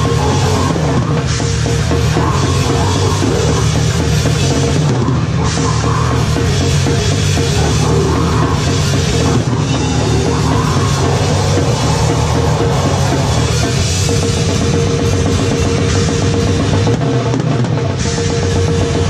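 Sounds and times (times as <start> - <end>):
fast snare and bass drum strokes: 0.0 - 19.0
heavy metal music: 0.0 - 19.0.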